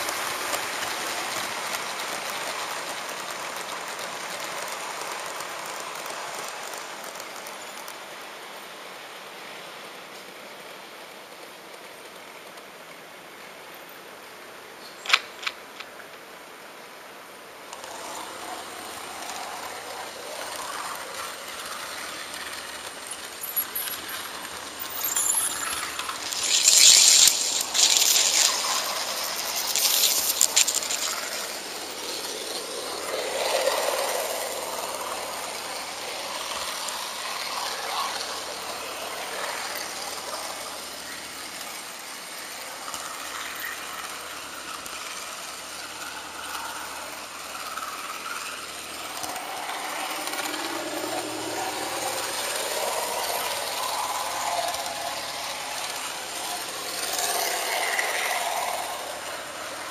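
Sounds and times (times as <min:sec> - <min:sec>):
model train wheels rattling: 0:00.0 - 0:08.3, 0:15.0 - 0:16.2, 0:17.7 - 0:59.9.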